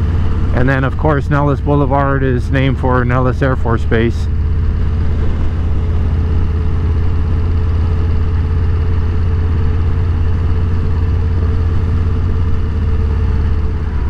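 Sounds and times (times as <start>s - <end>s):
motorcycle engine droning: 0.0s - 14.0s.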